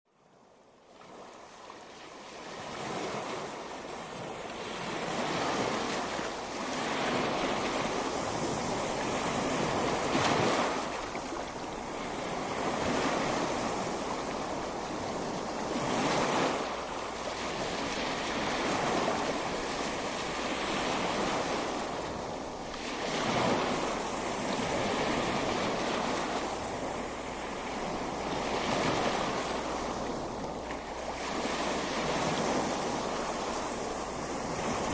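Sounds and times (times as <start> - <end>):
ocean waves breaking on beach: 0.1 - 34.9.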